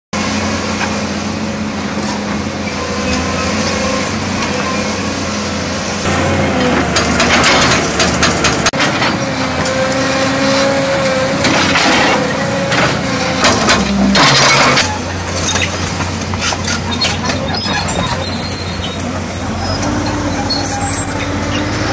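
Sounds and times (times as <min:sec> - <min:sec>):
excavator diesel engine running: 0:00.2 - 0:21.9.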